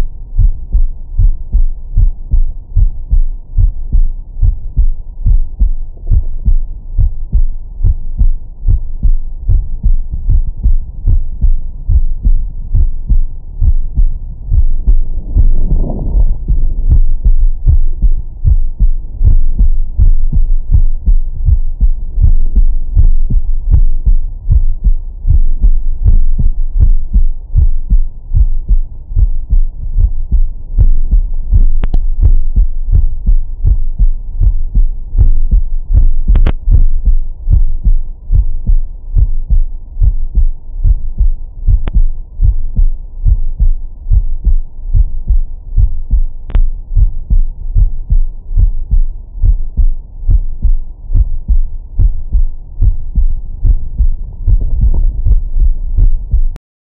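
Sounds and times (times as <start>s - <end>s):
heartbeat thumps: 0.0s - 56.6s.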